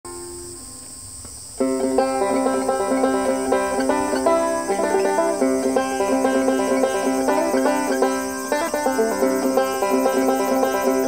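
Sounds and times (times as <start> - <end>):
cicadas buzzing: 0.1 - 11.0
banjo picking: 1.6 - 11.0.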